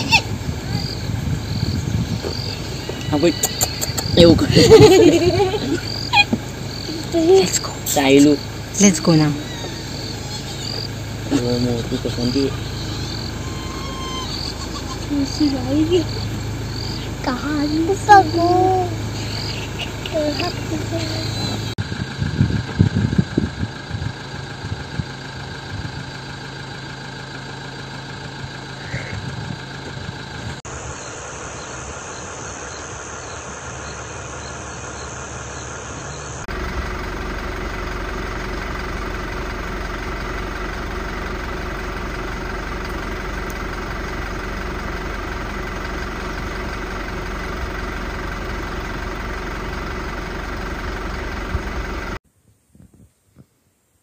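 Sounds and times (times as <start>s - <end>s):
strong low rumble: 0.0s - 52.2s
vehicle engine idling: 0.0s - 52.3s.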